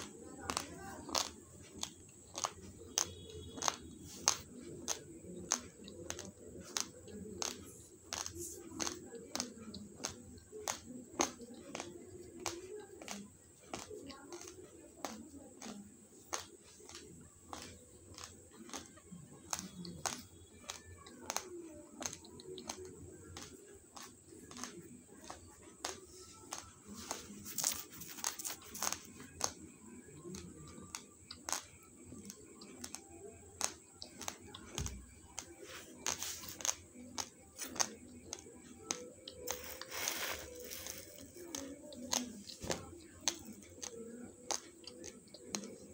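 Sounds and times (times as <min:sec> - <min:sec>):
crunchy chewing: 0:00.0 - 0:45.9
faint voices: 0:00.0 - 0:45.9.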